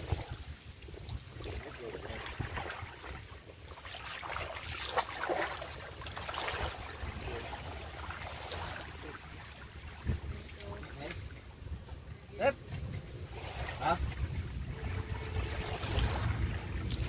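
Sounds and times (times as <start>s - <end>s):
water lapping in shallows: 0.0s - 17.0s
wind rumbling on microphone: 0.0s - 17.0s.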